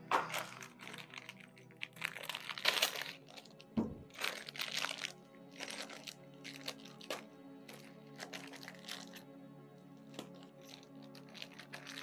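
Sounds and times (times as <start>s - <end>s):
background music: 0.0s - 12.0s
plastic bag crinkling: 0.1s - 9.2s, 10.2s - 12.0s.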